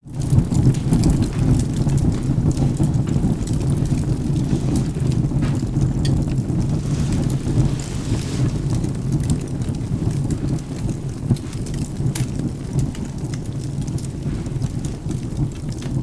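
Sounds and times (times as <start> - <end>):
low rumble of thunder: 0.0 - 16.0
steady rain: 0.0 - 16.0
wood fire crackling and popping: 0.0 - 16.0.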